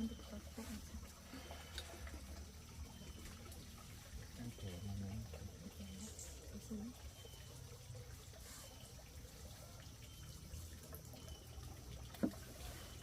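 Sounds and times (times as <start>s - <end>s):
trickle of running water: 0.0s - 13.0s.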